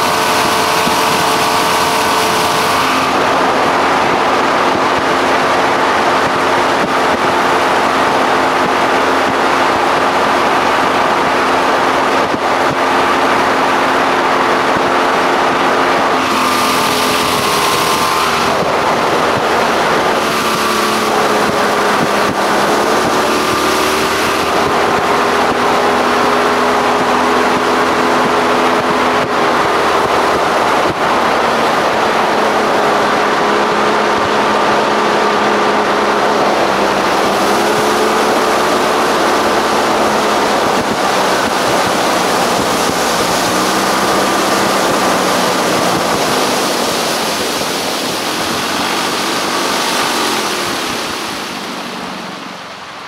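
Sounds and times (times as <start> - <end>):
outboard motor running: 0.0 - 53.0
water and wind rushing: 0.0 - 53.0.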